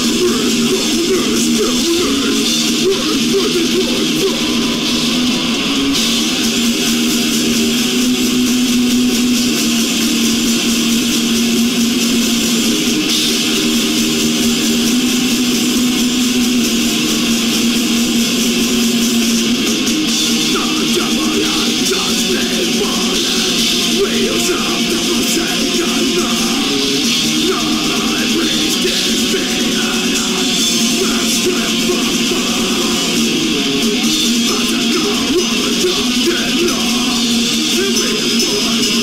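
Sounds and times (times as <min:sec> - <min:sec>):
heavy metal band playing live: 0:00.0 - 0:39.0.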